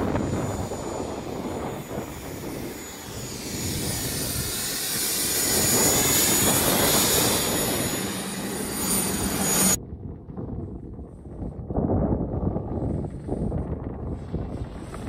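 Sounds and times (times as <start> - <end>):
helicopter rotor noise: 0.0 - 9.8, 12.5 - 15.0
helicopter turbine whine: 0.0 - 15.0.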